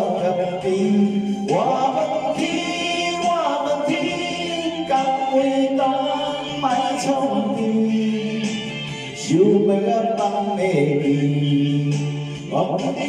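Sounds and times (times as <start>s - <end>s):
karaoke backing track: 0.0s - 13.0s
man singing into microphone: 0.0s - 13.0s.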